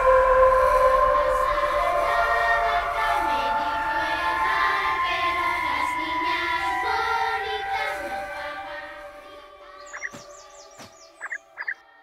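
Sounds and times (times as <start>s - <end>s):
music with singing voices: 0.0s - 12.0s.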